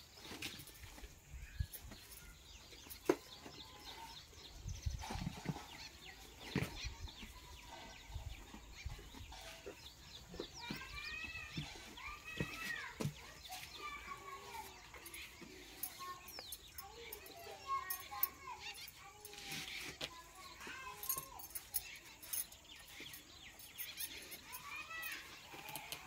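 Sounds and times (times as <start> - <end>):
birds chirping and calling: 0.0 - 26.0.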